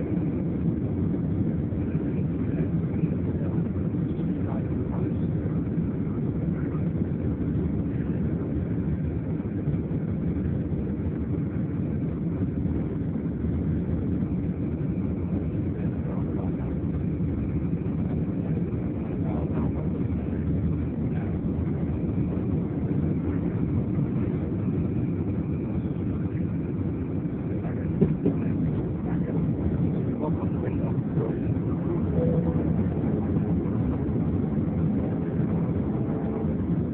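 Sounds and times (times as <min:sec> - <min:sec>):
jet engine rumble inside cabin: 0:00.0 - 0:36.9.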